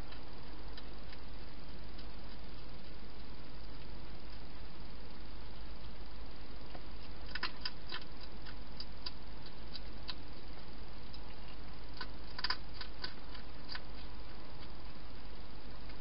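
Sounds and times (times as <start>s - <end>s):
hedgehog crunching food: 0.0s - 16.0s.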